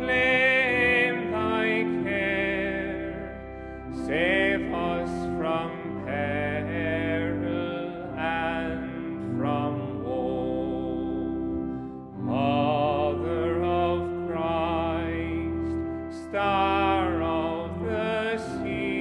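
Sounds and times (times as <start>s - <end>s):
held accompaniment chords: 0.0s - 19.0s.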